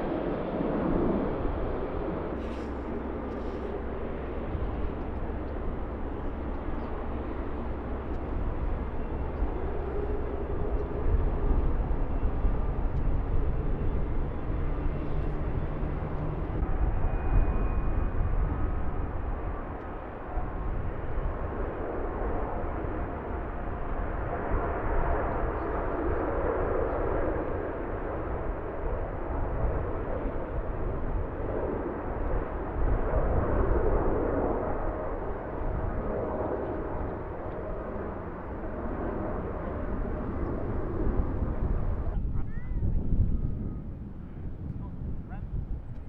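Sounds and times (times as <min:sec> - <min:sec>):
jet engines running: 0:00.0 - 0:42.3
wind rumble on microphone: 0:00.0 - 0:46.0.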